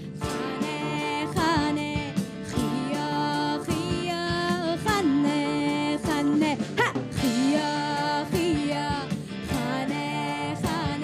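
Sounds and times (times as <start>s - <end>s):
guitar accompaniment: 0.0s - 11.0s.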